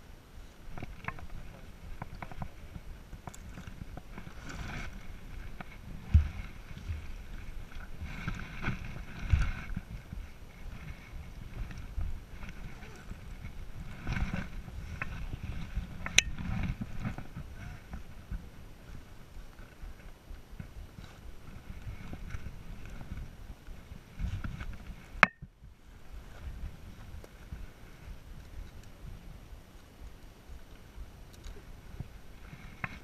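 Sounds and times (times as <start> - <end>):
clothing and gear rustling: 0.3 - 25.2, 25.8 - 33.0.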